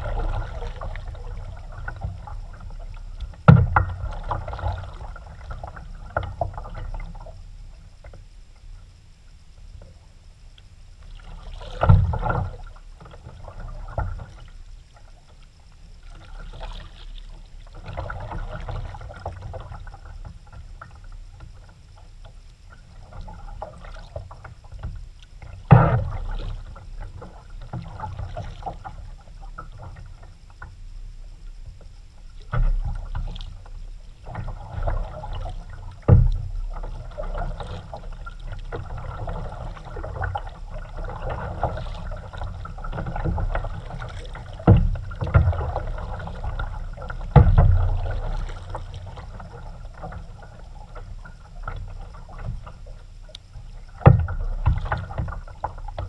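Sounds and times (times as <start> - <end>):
paddle splashing in water: 0.0 - 7.4, 11.0 - 15.4, 16.0 - 30.4, 32.3 - 56.0.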